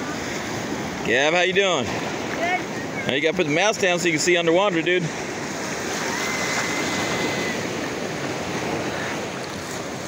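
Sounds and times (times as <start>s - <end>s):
small surf waves lapping: 0.0s - 10.0s.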